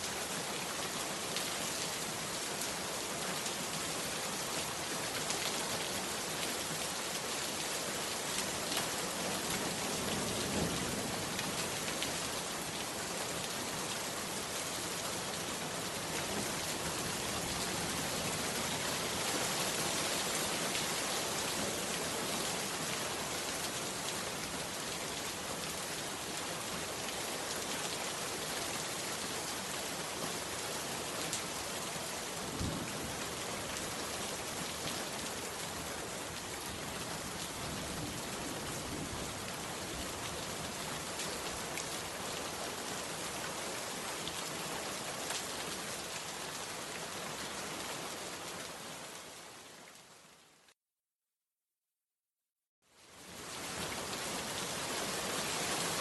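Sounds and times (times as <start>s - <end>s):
heavy rain falling: 0.0s - 50.7s, 53.2s - 56.0s.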